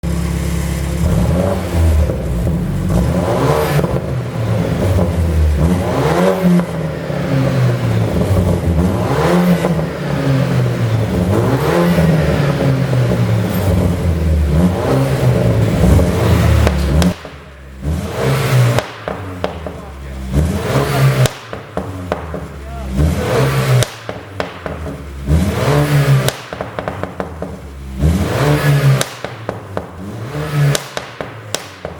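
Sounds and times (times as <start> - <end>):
car engine revving: 0.0 - 31.9
exhaust pops: 1.0 - 31.9.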